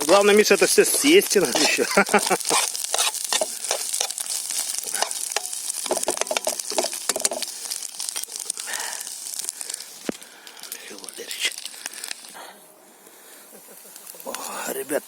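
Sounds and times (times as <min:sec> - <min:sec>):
fat sizzling in a pan: 0:00.0 - 0:12.5
crackles and clicks: 0:00.0 - 0:15.0.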